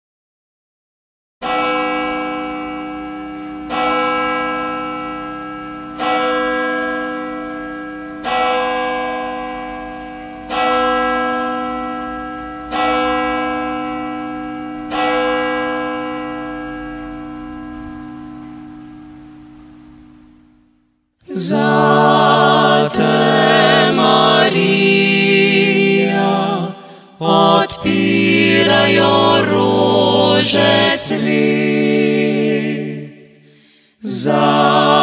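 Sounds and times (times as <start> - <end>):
church bell tolling: 1.4 - 20.8, 21.7 - 33.3.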